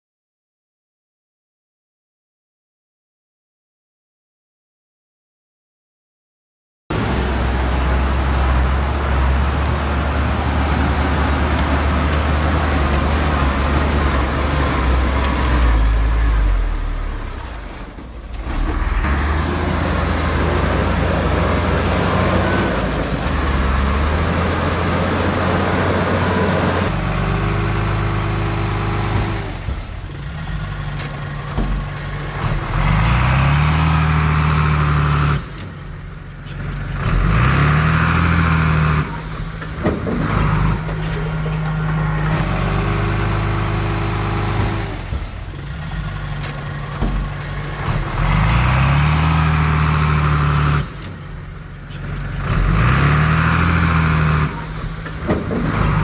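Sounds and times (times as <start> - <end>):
engine revving up: 6.9 - 30.8, 32.2 - 35.7, 37.0 - 51.1, 52.0 - 56.0
diesel earthmoving machinery: 6.9 - 56.0.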